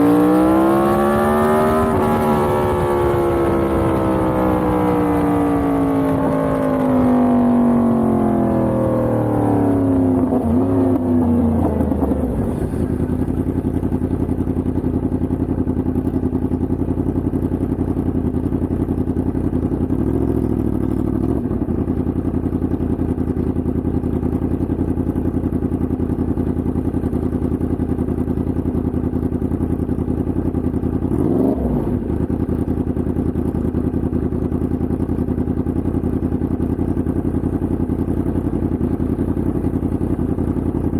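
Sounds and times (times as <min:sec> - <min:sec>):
motorcycle engine idling: 0:00.7 - 0:40.9.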